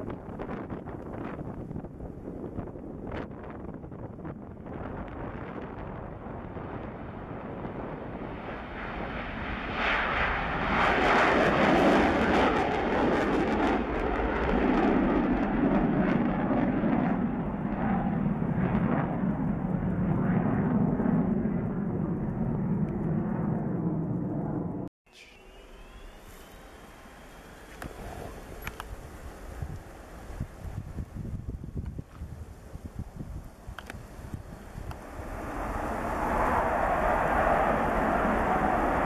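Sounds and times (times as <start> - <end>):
crackling jet roar: 0.0 - 31.2, 32.4 - 39.0
jet engines roaring at takeoff: 0.0 - 39.0.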